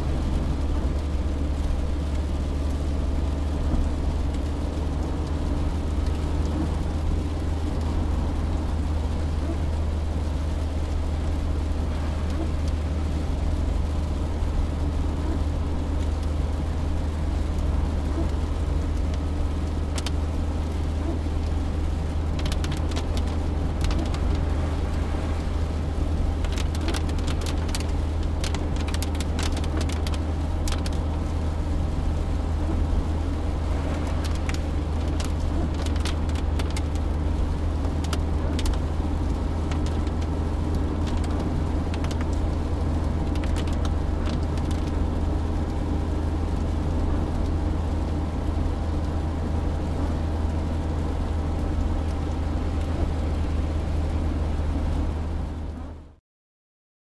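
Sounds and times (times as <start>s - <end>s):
car engine and road drone: 0.0s - 56.2s
rain ticking on car: 0.0s - 56.2s.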